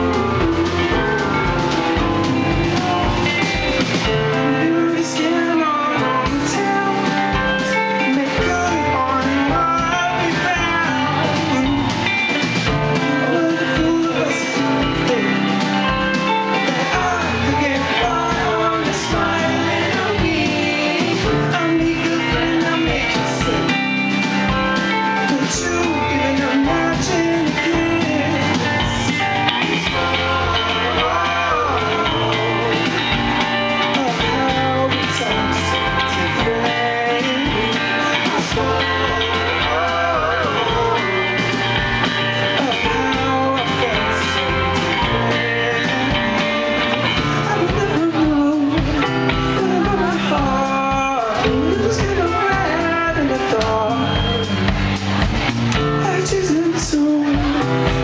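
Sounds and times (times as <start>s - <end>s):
electric guitar strumming: 0.0s - 58.0s
indie rock band playing live: 0.0s - 58.0s.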